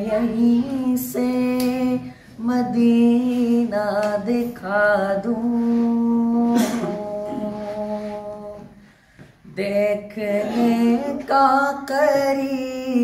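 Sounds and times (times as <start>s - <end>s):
boy singing unaccompanied: 0.0s - 8.7s, 9.5s - 13.0s.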